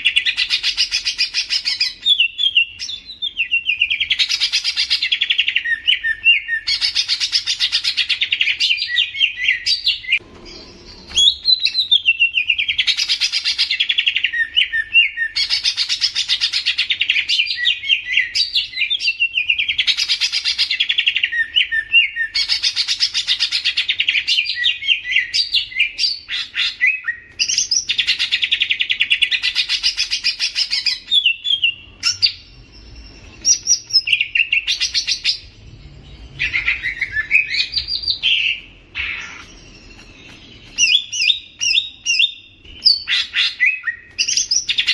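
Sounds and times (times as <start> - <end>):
bird singing chattering trills: 0.0 - 44.9.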